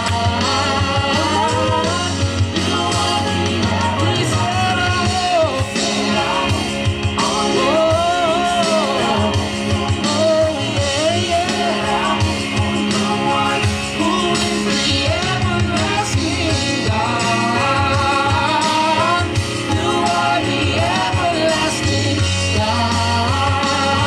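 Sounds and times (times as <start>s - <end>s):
band with steady bass: 0.0s - 24.0s
person singing: 0.0s - 24.0s.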